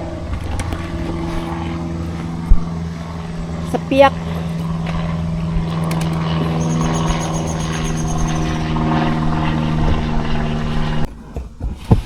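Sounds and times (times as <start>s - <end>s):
motor humming: 0.0s - 11.7s.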